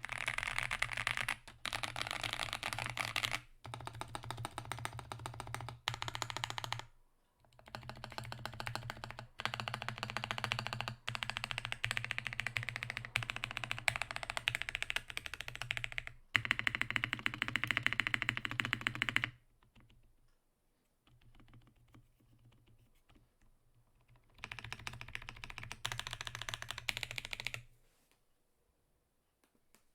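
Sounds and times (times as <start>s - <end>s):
mechanical keyboard typing: 0.0s - 6.9s, 7.5s - 20.0s, 21.1s - 22.8s, 24.0s - 27.6s.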